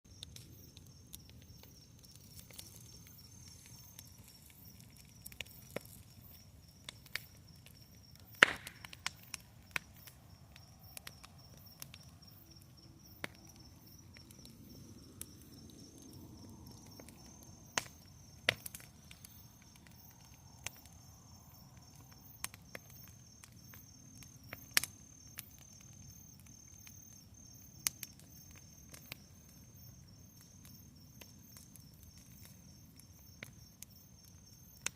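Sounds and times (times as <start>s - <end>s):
bonfire crackling and popping: 0.1s - 34.9s.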